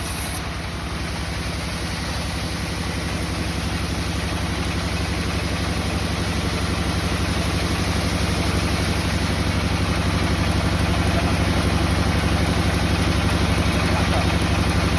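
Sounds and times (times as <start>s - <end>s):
engine chugging: 0.0s - 14.9s.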